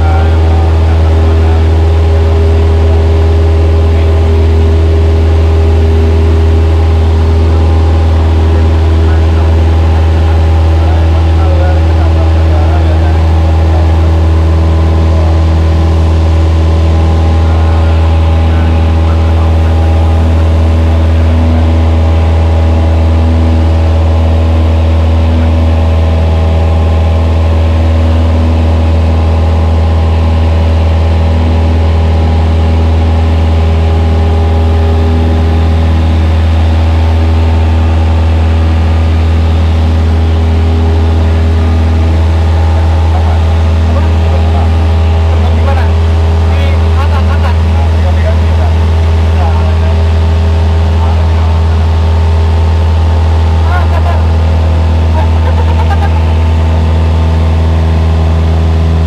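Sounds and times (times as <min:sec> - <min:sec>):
airplane engine and propeller: 0:00.0 - 0:59.0.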